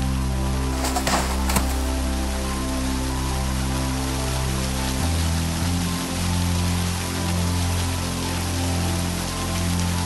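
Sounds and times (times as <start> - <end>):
background music low notes: 0.0 - 10.0.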